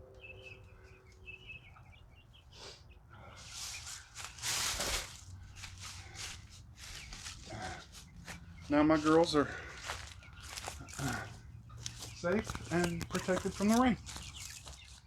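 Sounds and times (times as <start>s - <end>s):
chicks chirping softly: 0.0s - 15.0s.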